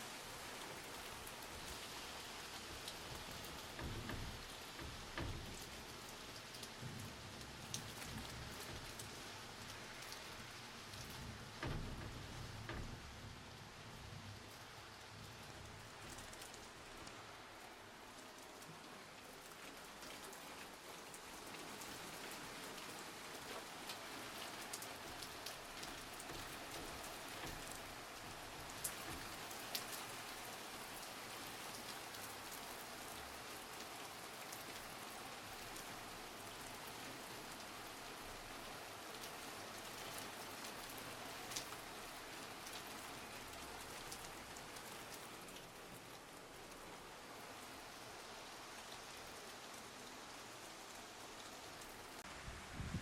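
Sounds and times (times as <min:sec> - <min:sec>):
rain patter: 0:00.0 - 0:53.0
raindrop ticks: 0:00.5 - 0:52.3.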